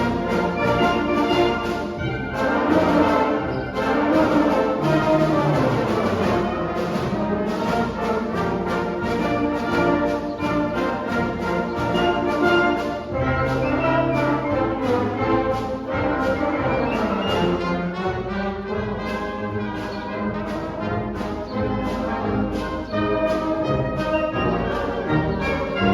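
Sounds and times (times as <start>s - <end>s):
concert band playing brass piece: 0.0s - 25.9s.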